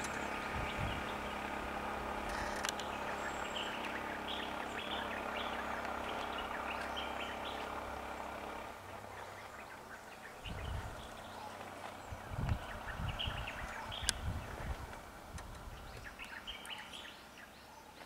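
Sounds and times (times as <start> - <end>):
birds chirping: 0.0 - 18.0
idling vehicle engine hum: 0.0 - 18.0.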